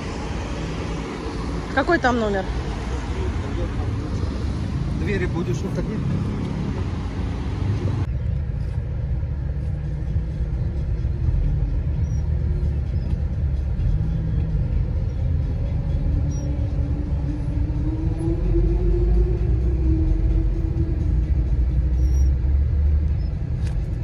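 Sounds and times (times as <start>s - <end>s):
car engine and tyres rumbling inside: 0.0s - 24.0s
street traffic noise: 0.0s - 24.0s.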